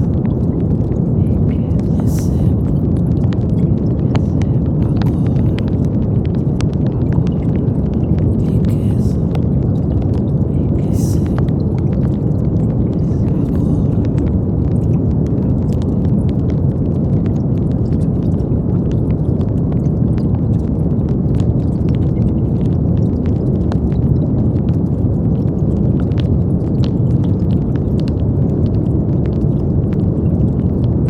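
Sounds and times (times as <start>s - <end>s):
brown noise hiss: 0.0s - 31.0s.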